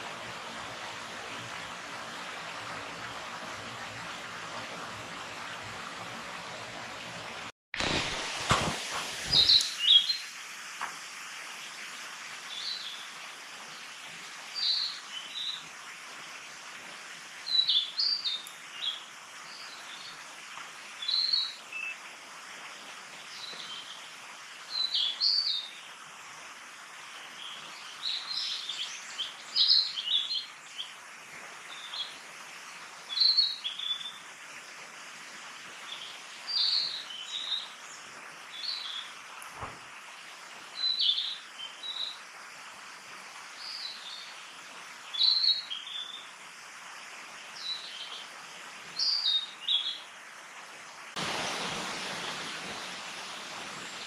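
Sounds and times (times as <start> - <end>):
steady background hiss: 6.2 - 54.0.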